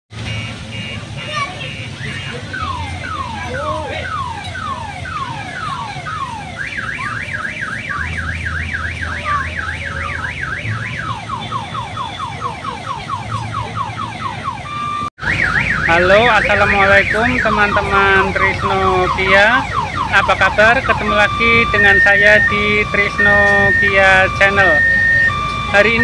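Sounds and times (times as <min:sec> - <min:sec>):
car alarm siren: 0:00.2 - 0:26.0.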